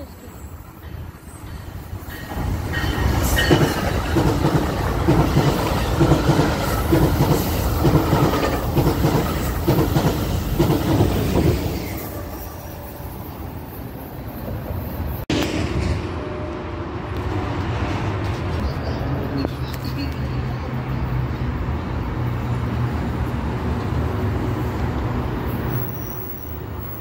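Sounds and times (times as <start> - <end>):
electric train passing: 0.0 - 19.8, 20.6 - 27.0.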